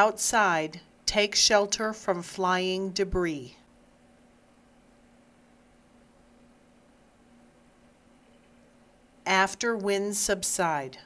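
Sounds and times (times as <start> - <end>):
faint steady hiss: 0.0 - 11.0
low hum: 0.0 - 11.0.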